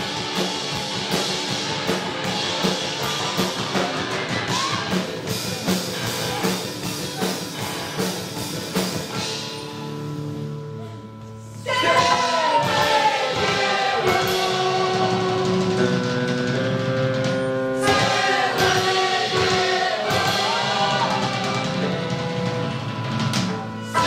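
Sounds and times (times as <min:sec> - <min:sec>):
live band with voices singing: 0:00.0 - 0:24.0.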